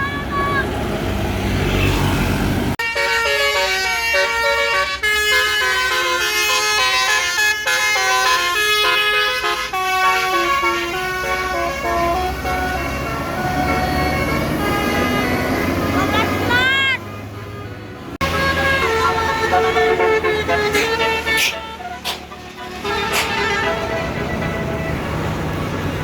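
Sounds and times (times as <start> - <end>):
low engine and traffic rumble: 0.0 - 26.0
bus horn playing a melody: 2.8 - 26.0.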